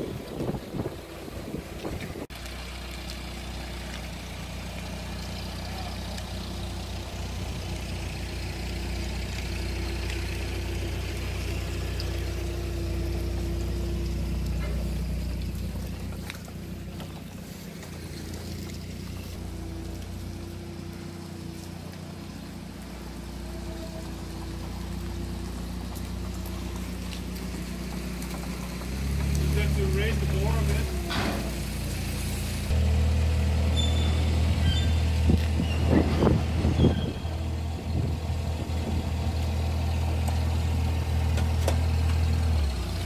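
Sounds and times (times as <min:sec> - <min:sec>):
forklift engine running: 0:00.0 - 0:43.0.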